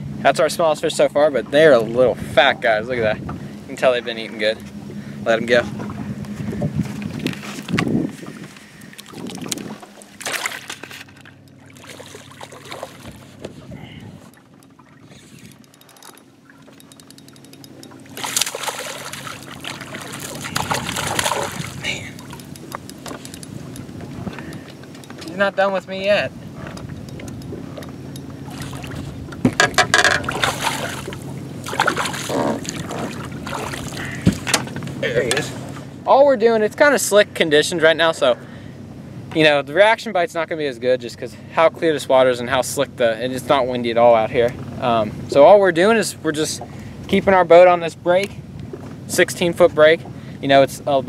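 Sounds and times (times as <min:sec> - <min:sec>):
boat motor humming: 0:00.0 - 0:51.0
water splashing and sloshing: 0:00.0 - 0:51.0.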